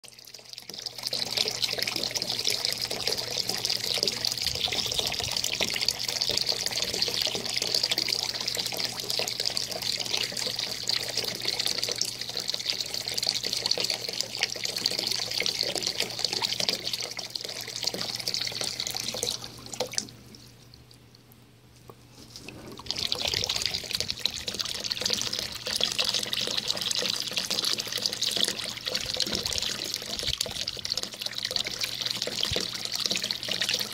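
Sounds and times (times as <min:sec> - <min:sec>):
hose stream splashing into water: 0:00.0 - 0:20.3, 0:22.3 - 0:33.9.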